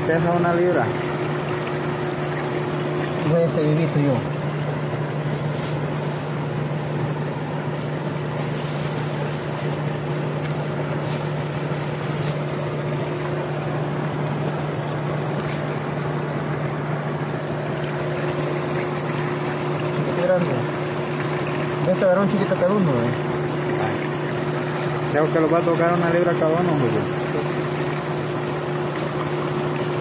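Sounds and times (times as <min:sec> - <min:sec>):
machinery motor hum: 0:00.0 - 0:30.0.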